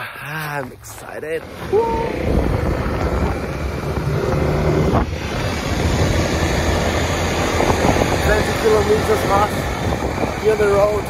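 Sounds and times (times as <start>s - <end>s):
motorbike engine rumble: 0.5s - 11.0s
wind buffeting microphone: 1.2s - 11.0s.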